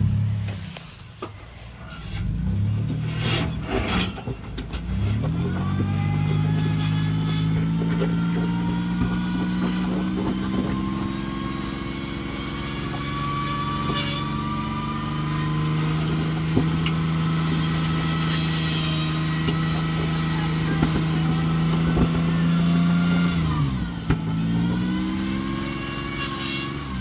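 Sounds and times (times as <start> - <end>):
truck engine under load: 0.0 - 27.0.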